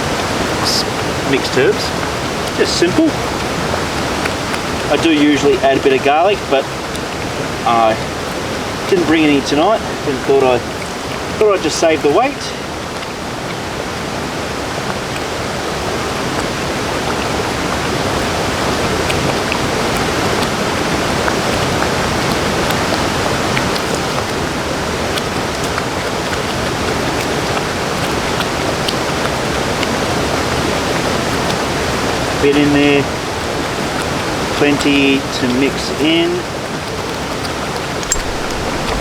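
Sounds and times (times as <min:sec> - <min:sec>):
waterfall and creek rushing: 0:00.0 - 0:39.0.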